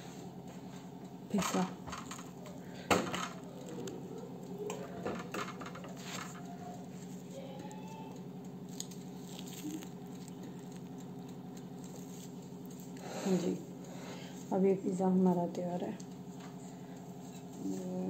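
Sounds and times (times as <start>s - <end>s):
kitchen appliance hum: 0.0s - 18.0s.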